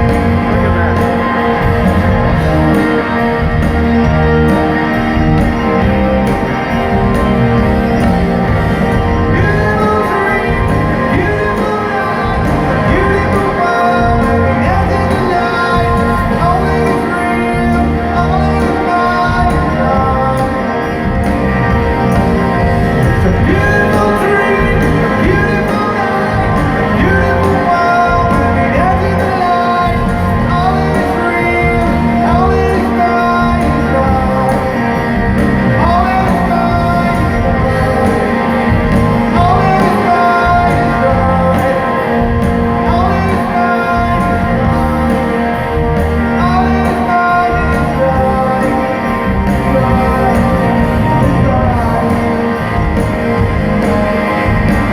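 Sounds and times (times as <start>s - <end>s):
live rock band: 0.0s - 54.9s
person singing: 0.0s - 54.9s.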